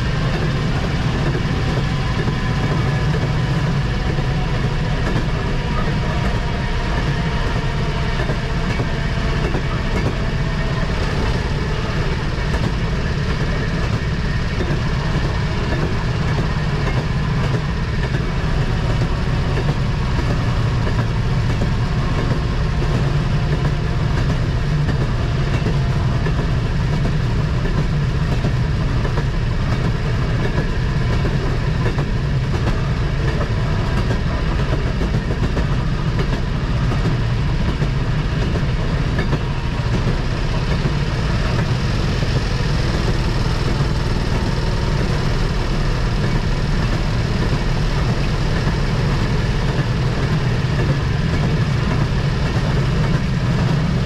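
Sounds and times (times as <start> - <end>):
rail motorcar engine drone: 0.0 - 54.0
wheels on rails: 0.0 - 54.0.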